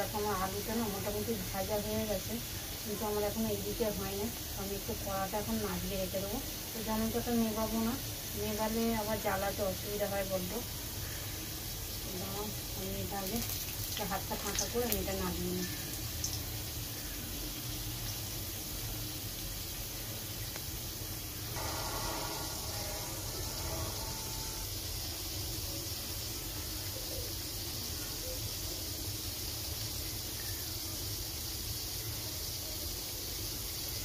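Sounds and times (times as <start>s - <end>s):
potatoes sizzling in oil: 0.0s - 34.0s.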